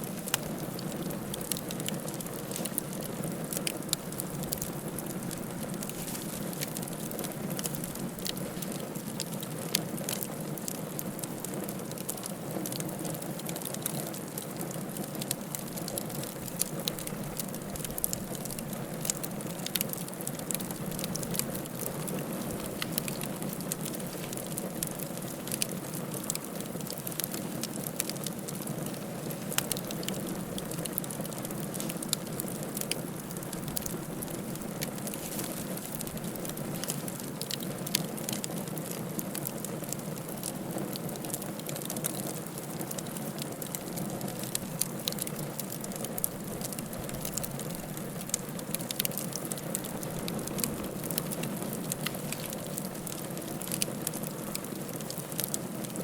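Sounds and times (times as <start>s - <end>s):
sharp pops and snaps: 0.0s - 56.0s
wood fire crackling: 0.0s - 56.0s.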